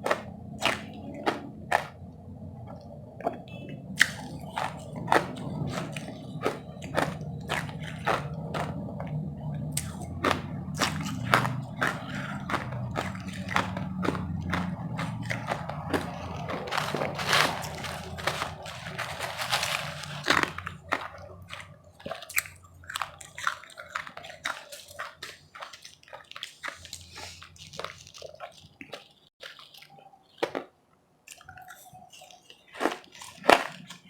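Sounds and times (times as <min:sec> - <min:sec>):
chewing and crunching ice: 0:00.0 - 0:34.0.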